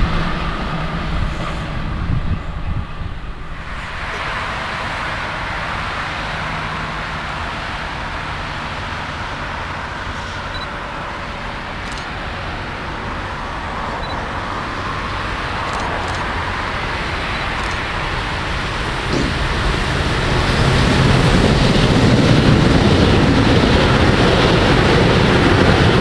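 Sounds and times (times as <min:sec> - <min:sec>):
tyres hissing on wet road: 0:00.0 - 0:02.6, 0:03.2 - 0:26.0
freight train approaching: 0:00.0 - 0:26.0
traffic noise: 0:00.0 - 0:26.0.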